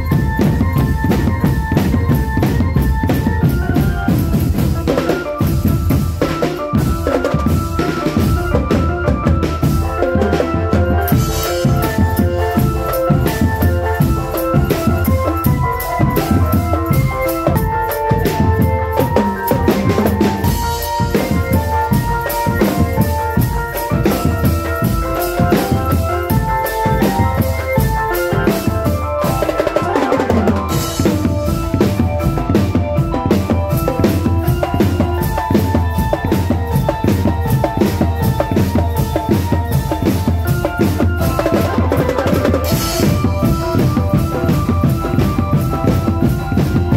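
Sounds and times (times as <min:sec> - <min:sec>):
held melody: 0:00.0 - 0:46.9
snare and bass drum beats: 0:00.0 - 0:46.9.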